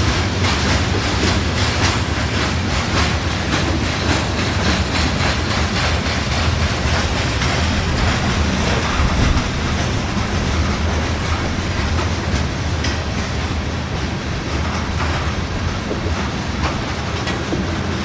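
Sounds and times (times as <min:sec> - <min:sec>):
freight train rumbling and rattling: 0:00.0 - 0:18.0.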